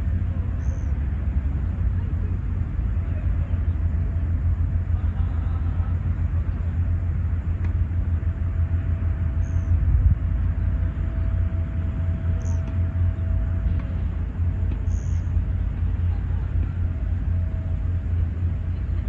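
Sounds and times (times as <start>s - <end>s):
faint steady hum: 0.0s - 19.0s
steady low rumble: 0.0s - 19.0s.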